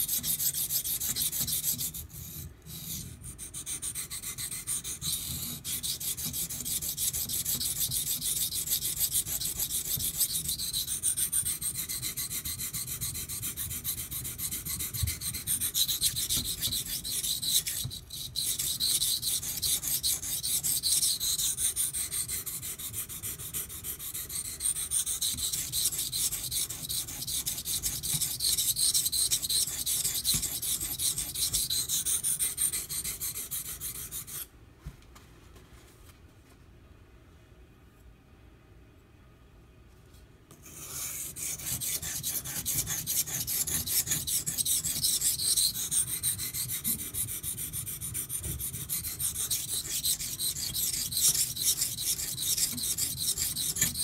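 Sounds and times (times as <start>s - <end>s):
knife scraping on whetstone: 0.0s - 34.5s, 40.6s - 54.0s.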